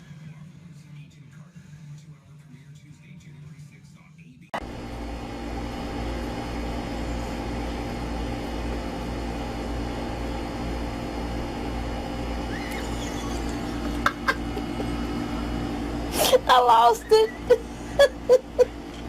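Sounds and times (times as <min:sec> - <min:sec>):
mechanical hum with low rumble: 0:00.0 - 0:19.0.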